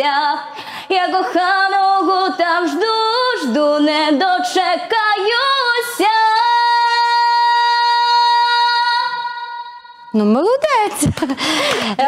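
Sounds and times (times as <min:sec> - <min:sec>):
girl singing a cappella: 0:00.0 - 0:10.3.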